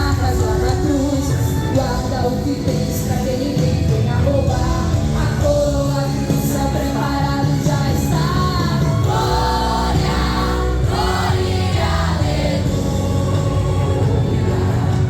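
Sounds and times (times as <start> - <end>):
instrumental accompaniment with bass: 0.0 - 15.0
group singing gospel song: 2.0 - 15.0.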